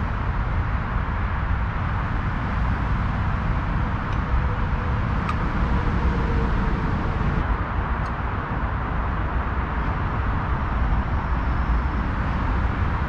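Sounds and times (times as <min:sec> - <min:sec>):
cars passing: 0:00.7 - 0:13.0.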